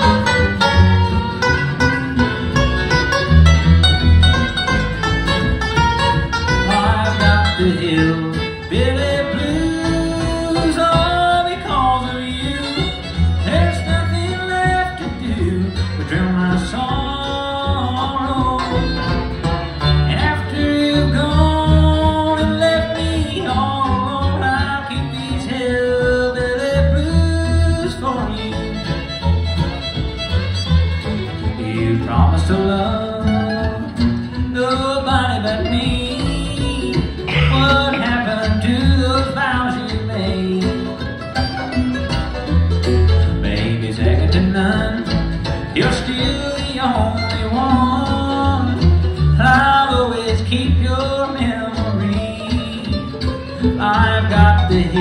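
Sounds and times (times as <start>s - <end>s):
acoustic guitar: 0.0s - 55.0s
banjo: 0.0s - 55.0s
bluegrass band playing: 0.0s - 55.0s
fiddle: 0.0s - 55.0s
mandolin: 0.0s - 55.0s
sliding notes: 0.0s - 55.0s
upright bass: 0.0s - 55.0s.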